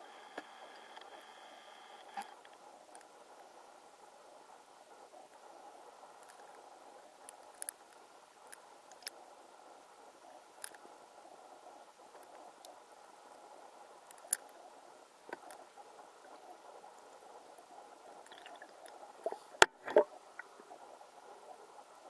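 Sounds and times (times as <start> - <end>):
faint underwater hiss: 0.0 - 22.0.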